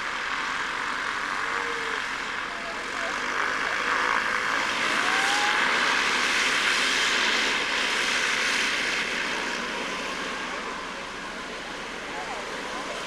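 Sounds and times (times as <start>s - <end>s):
propeller aircraft engine: 0.0s - 13.0s.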